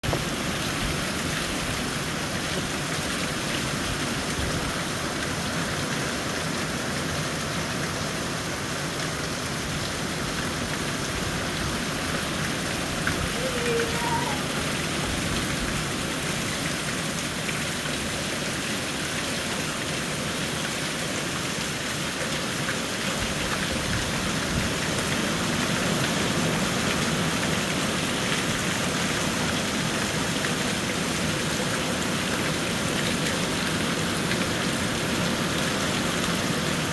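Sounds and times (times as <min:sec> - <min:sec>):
rain pattering: 0:00.0 - 0:36.9.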